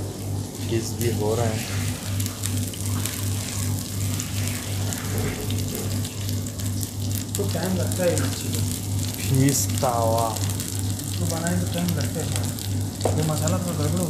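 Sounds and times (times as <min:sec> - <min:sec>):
fish sizzling in oil: 0:00.0 - 0:14.0
low pulsing hum: 0:00.0 - 0:14.0.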